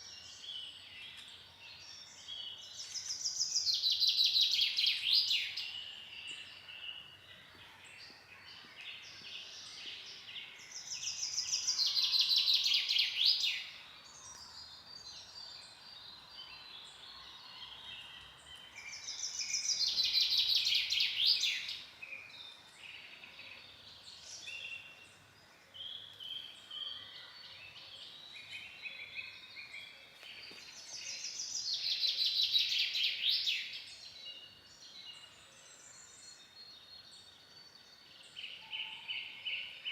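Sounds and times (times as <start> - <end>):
bird song phrase: 0.0 - 39.9
soft bird chirps and calls: 0.0 - 39.9.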